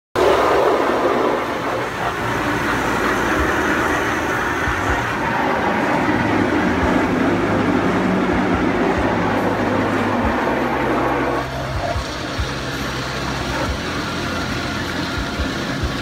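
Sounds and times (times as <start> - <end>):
low hum of wash machinery: 0.2 - 16.0
water spraying on car: 0.2 - 16.0.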